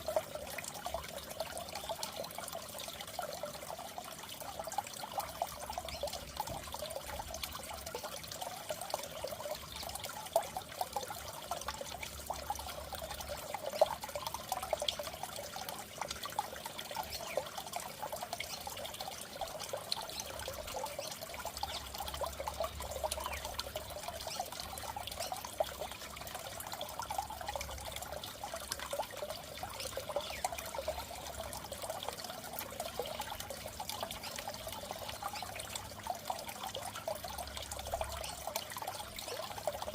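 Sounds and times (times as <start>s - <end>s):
fish tank water trickling and bubbling: 0.0s - 39.9s.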